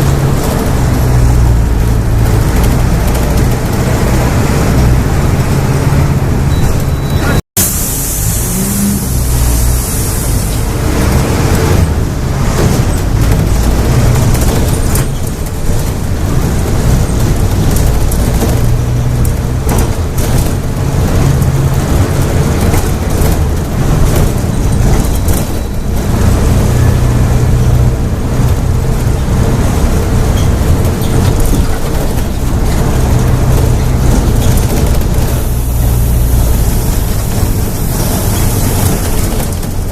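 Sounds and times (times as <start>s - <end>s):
bus diesel engine at high revs: 0.0s - 39.9s.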